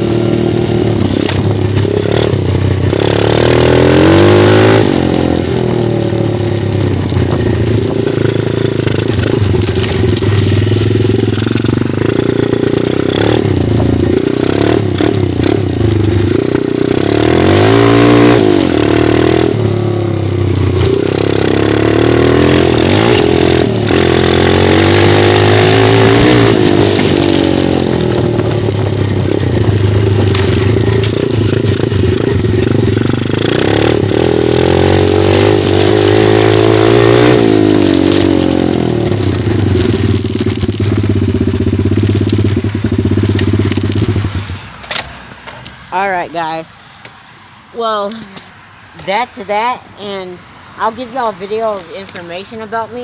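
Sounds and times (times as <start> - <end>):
dirt bike engine revving: 0.0 - 46.6.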